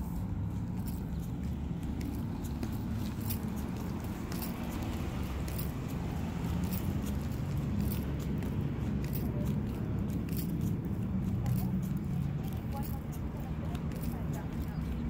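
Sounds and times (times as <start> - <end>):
light ticks or jingles: 0.0 - 15.0
steady low outdoor rumble: 0.0 - 15.0.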